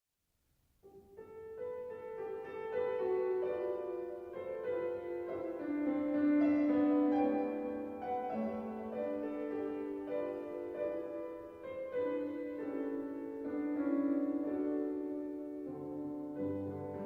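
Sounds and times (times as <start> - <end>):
piano playing hymn: 0.9 - 17.0.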